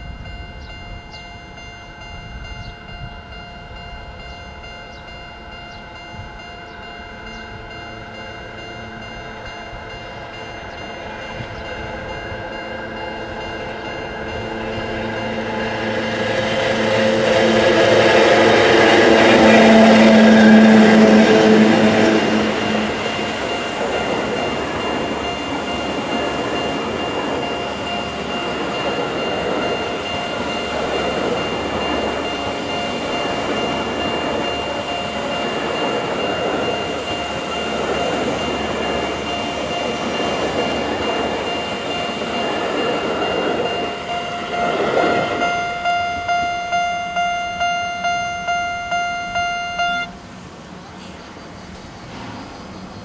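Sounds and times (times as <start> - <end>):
electric locomotive hum: 0.0 - 53.0
train wheels on rail: 0.0 - 53.0.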